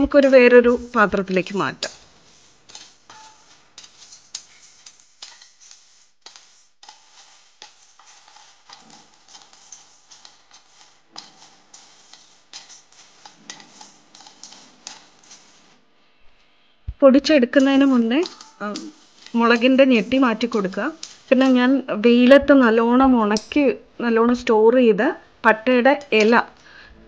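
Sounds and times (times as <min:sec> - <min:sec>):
spices rattling against metal: 0:00.0 - 0:15.8, 0:17.1 - 0:23.6
wooden spatula scraping a pan: 0:00.0 - 0:16.0, 0:17.1 - 0:23.4.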